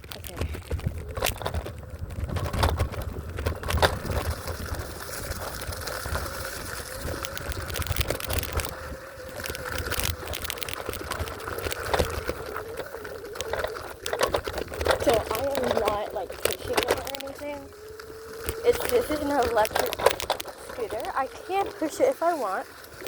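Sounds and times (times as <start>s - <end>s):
wind on microphone: 0.0s - 22.0s
wheels and frame rattling: 0.0s - 23.0s
electric scooter motor whine: 0.6s - 23.0s.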